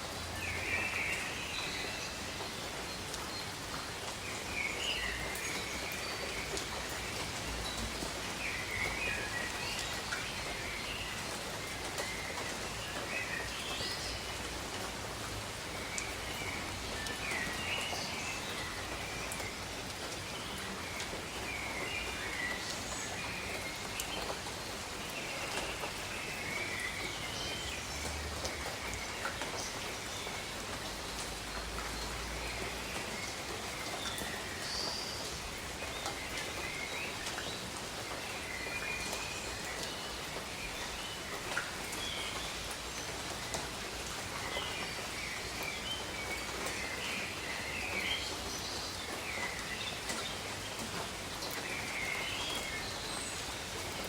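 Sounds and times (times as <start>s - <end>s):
rain on foliage: 0.0s - 54.0s.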